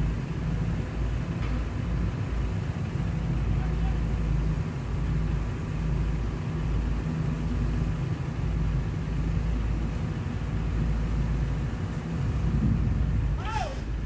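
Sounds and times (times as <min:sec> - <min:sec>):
diesel engines rumbling: 0:00.0 - 0:14.0.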